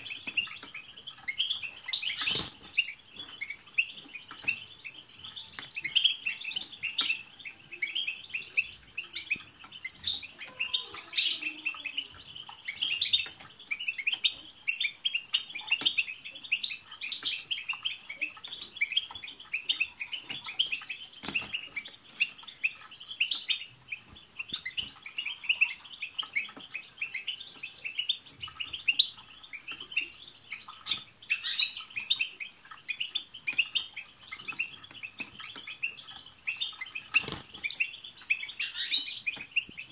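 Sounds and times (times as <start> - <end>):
goldfinches twittering: 0.0 - 39.9.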